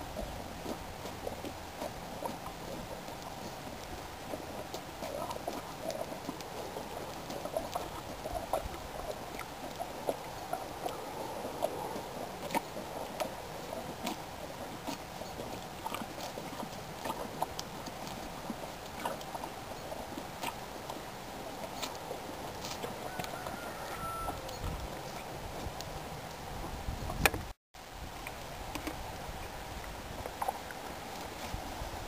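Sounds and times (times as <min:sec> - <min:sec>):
donkey chewing: 0:00.1 - 0:27.4.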